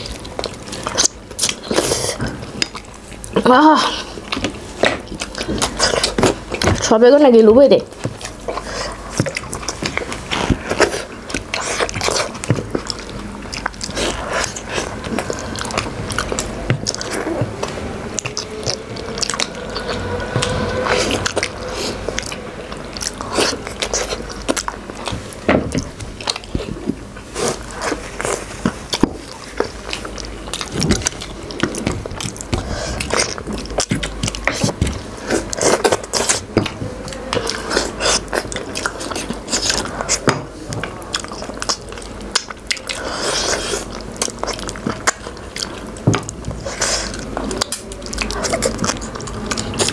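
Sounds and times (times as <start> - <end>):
person chewing meat and bones: 0.0 - 49.9.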